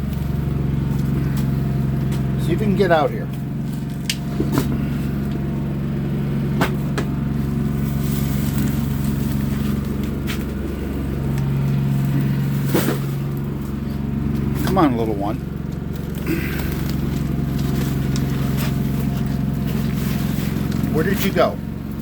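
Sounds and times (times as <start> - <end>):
generator engine humming: 0.0 - 22.0.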